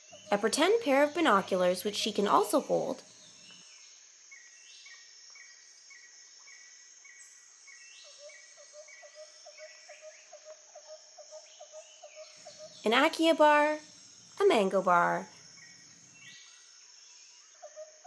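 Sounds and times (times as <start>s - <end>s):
high insect buzz: 0.0s - 18.0s
lower chirping: 0.0s - 18.0s.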